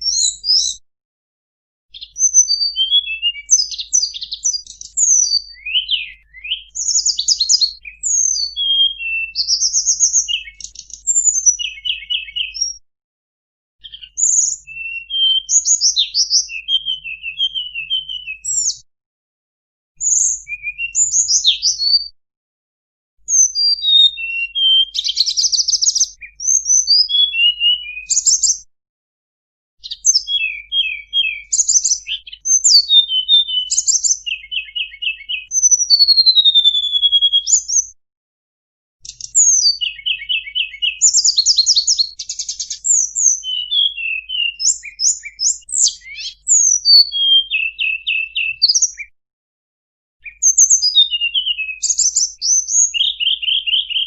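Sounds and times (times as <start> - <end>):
songbird singing: 0.0 - 0.8, 1.9 - 12.8, 13.8 - 18.8, 20.0 - 22.1, 23.3 - 28.6, 29.8 - 38.0, 39.0 - 49.1, 50.2 - 54.0.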